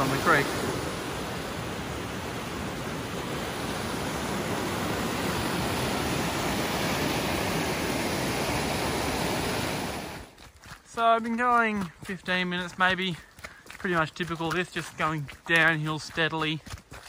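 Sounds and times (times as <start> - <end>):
creek water rushing over rocks: 0.0 - 17.0.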